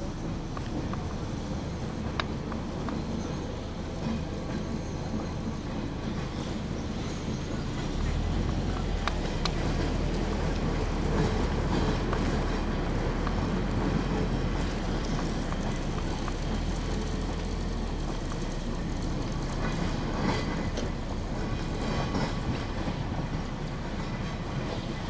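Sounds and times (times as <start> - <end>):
rumble of motors and wheels: 0.0 - 25.0.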